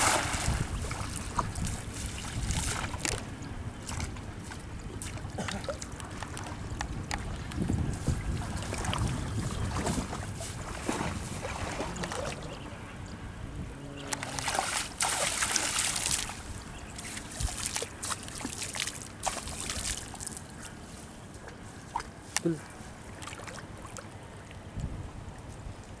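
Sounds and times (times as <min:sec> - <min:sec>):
water splashing and sloshing: 0:00.0 - 0:13.0, 0:13.9 - 0:26.0.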